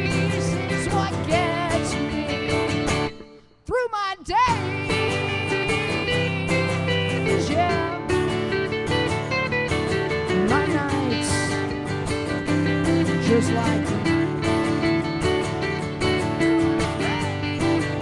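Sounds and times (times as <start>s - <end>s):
electric bass: 0.0s - 3.2s, 4.5s - 18.0s
live band playing: 0.0s - 3.5s, 4.5s - 18.0s
sliding lead guitar notes: 0.0s - 3.6s, 4.4s - 18.0s
strummed acoustic guitars: 0.0s - 3.6s, 4.3s - 18.0s.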